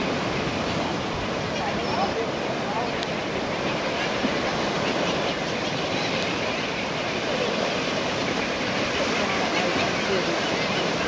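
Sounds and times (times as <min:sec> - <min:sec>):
faint seabird calls: 0:00.0 - 0:11.0
surf and splashing water: 0:00.0 - 0:11.0.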